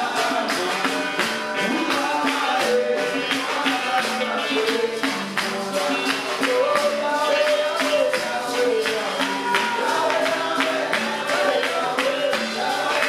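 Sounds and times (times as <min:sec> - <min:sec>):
congregation singing: 0:00.0 - 0:13.0
hand clapping: 0:00.0 - 0:13.0
tambourine: 0:00.0 - 0:13.0.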